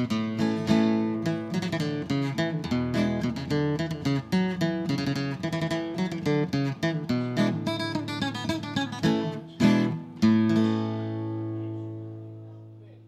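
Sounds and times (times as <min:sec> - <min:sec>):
acoustic guitar picking: 0:00.0 - 0:12.8.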